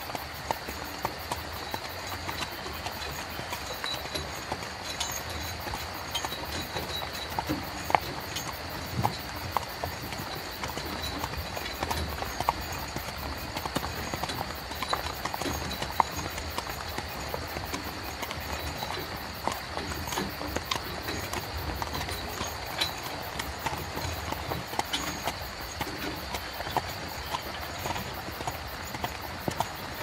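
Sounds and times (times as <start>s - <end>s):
carriage wheels rumbling: 0.0s - 30.0s
horse hooves clip-clopping: 0.0s - 30.0s.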